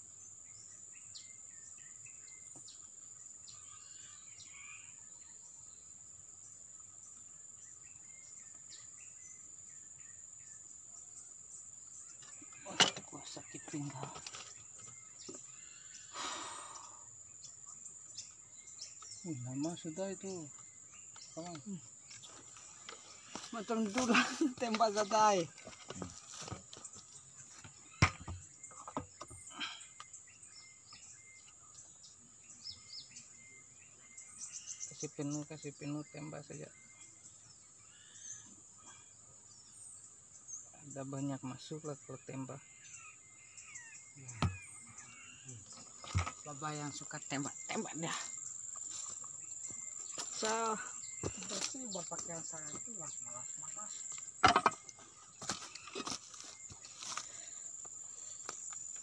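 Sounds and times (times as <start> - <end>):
birds chirping: 0.0 - 59.0
high insect drone: 0.0 - 59.0.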